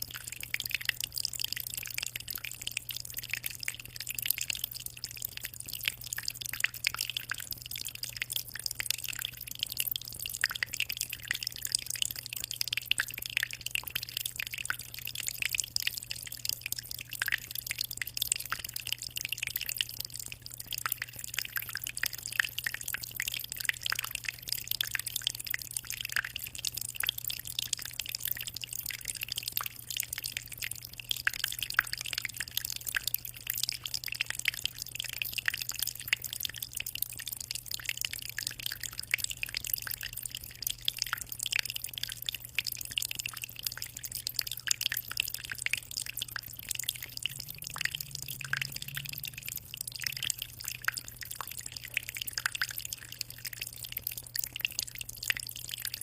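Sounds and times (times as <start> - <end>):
aquarium water trickling and dripping: 0.0 - 56.0.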